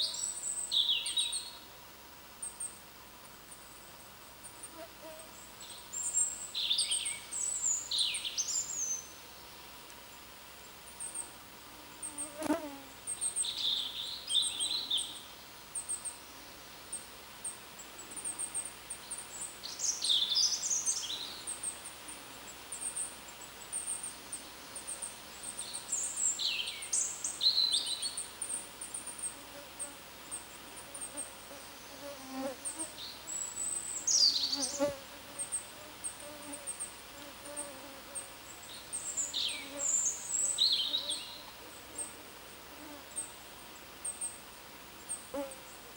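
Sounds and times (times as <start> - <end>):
faint insect buzz: 0.0 - 45.9.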